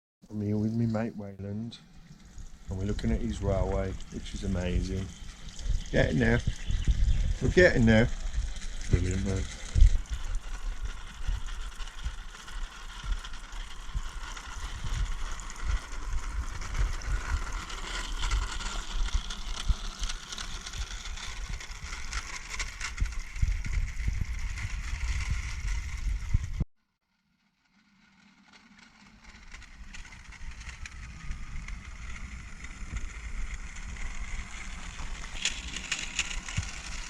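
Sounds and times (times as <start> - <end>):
model train running on track: 1.5 - 26.6, 27.7 - 37.0
wind buffeting microphone: 2.0 - 26.6, 29.9 - 35.6.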